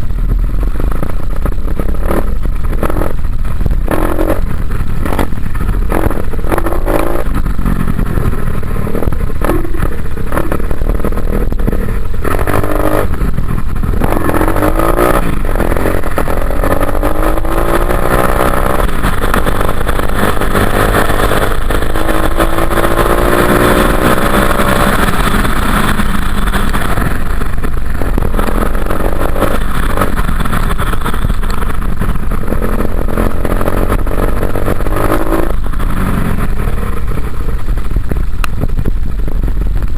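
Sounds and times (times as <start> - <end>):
dirt bike engine revving: 0.8 - 37.9.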